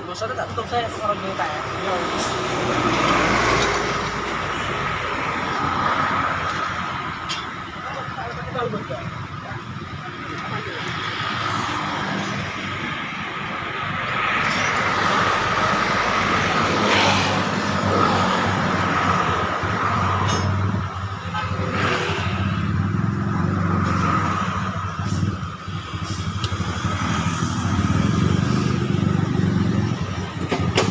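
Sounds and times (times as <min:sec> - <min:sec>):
outdoor street noise: 0:00.0 - 0:30.9.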